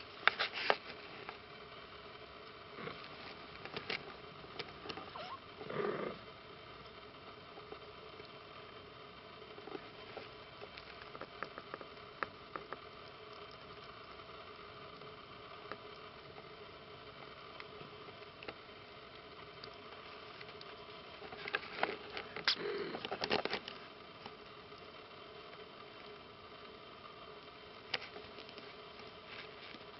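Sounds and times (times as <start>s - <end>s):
low steady hiss: 0.0s - 29.9s.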